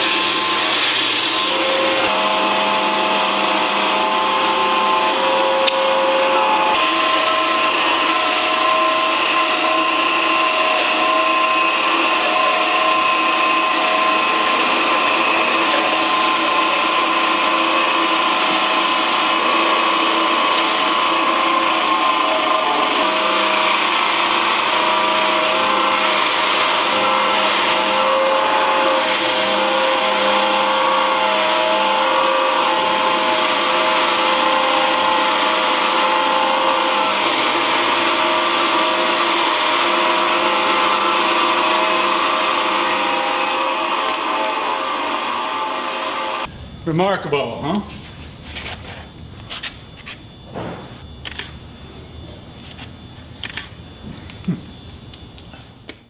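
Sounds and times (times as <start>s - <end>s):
bandsaw cutting wood: 0.0s - 46.5s.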